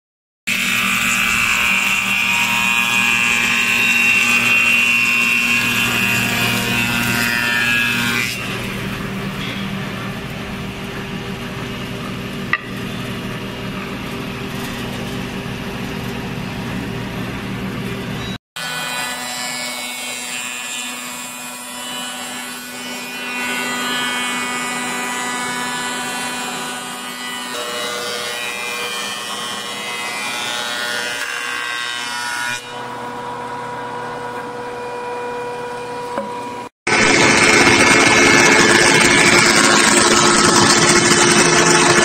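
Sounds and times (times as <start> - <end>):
wood being cut: 0.5 - 14.7, 18.6 - 42.0
wood planer whining: 0.5 - 42.0.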